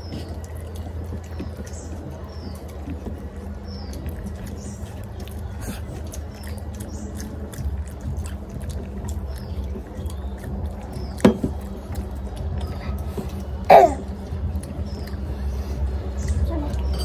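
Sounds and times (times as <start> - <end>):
chewing with wet mouth clicks: 0.0 - 17.0.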